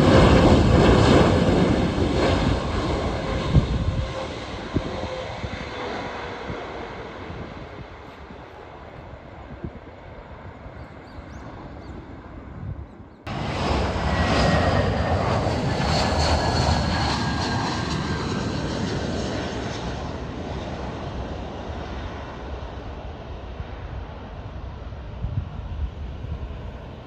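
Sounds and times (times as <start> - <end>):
faint wind: 0.0 - 27.0
jet airliner passing low: 0.0 - 27.0.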